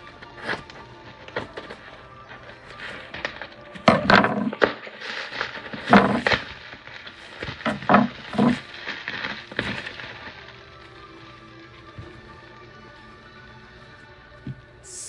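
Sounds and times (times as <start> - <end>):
packaging wrap crinkling: 0.0 - 13.9.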